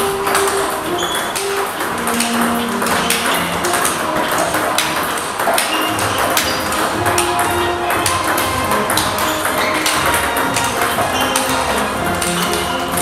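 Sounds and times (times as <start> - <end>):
background music: 0.0 - 13.0
table tennis balls clicking: 0.0 - 13.0.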